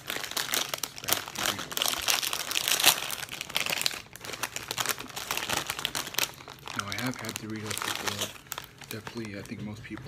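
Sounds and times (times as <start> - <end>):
chip bag crinkling: 0.0 - 10.0.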